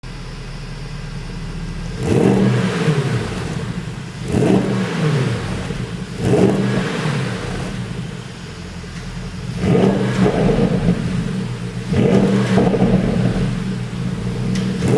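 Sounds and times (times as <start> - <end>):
car engine idling: 0.0 - 14.9
engine revving: 0.0 - 14.9.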